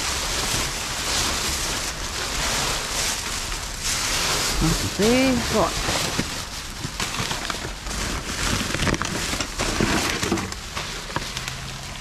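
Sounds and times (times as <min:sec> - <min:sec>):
rummaging through rubbish: 0:00.0 - 0:12.0.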